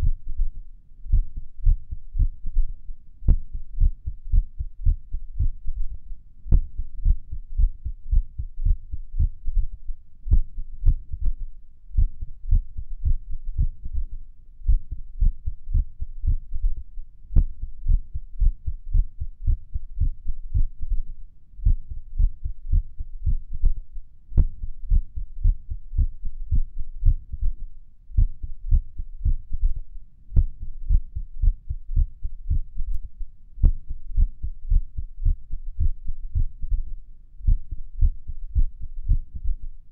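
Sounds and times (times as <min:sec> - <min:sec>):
heart beating: 0:00.0 - 0:39.8.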